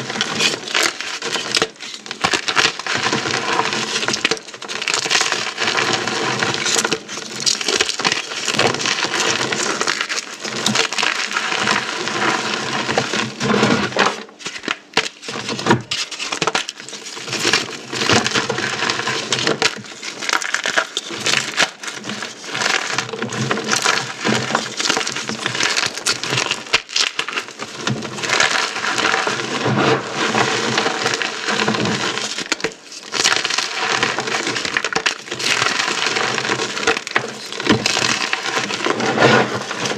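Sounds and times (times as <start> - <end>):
beads and chalk crunching: 0.0 - 39.9.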